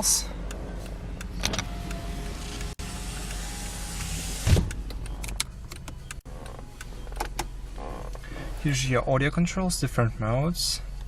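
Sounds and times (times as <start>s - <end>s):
low hum inside a car: 0.0s - 11.0s.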